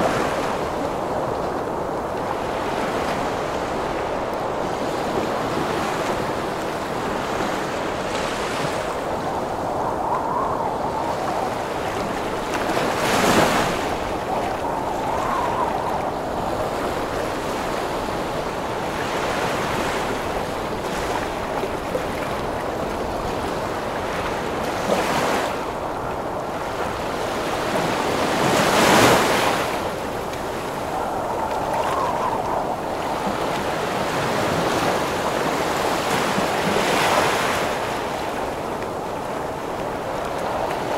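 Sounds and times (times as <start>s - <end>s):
ocean surf rushing: 0.0s - 40.9s
strong wind: 0.0s - 40.9s
waves crashing: 0.0s - 40.9s.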